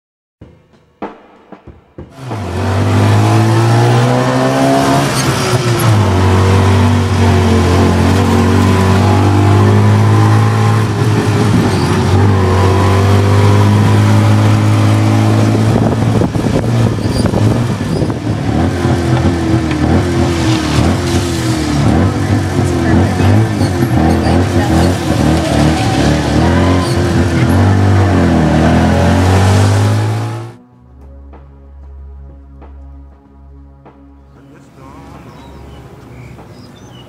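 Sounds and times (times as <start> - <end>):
tuk tuk engine running: 2.2 - 31.3, 34.1 - 37.0.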